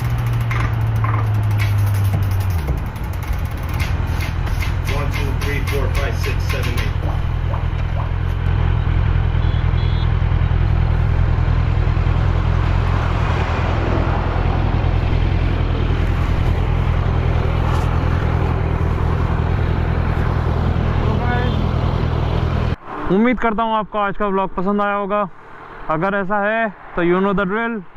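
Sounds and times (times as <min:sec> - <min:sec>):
motorcycle engine running: 0:00.0 - 0:22.8
wind and road noise: 0:00.0 - 0:27.9.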